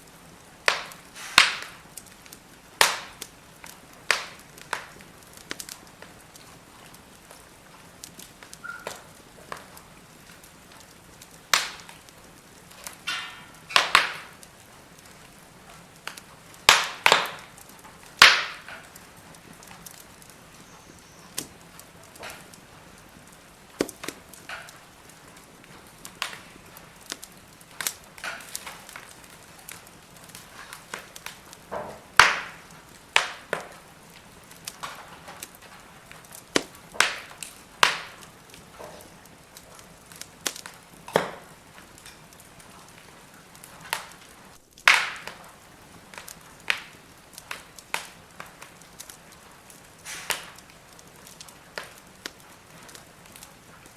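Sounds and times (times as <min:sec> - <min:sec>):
faint hiss: 0:00.0 - 0:53.9
firewood crackling and popping: 0:00.0 - 0:53.9.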